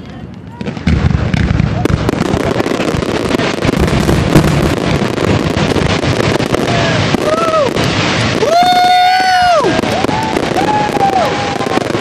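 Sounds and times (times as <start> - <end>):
fireworks bangs and crackling: 0.0 - 12.0
whistling firework: 0.0 - 12.0.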